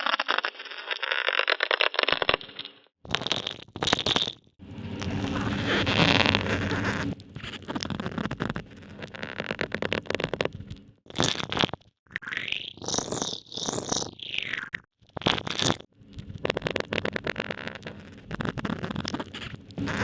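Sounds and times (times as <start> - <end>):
underwater ice crackling: 0.0 - 11.8, 15.1 - 20.0.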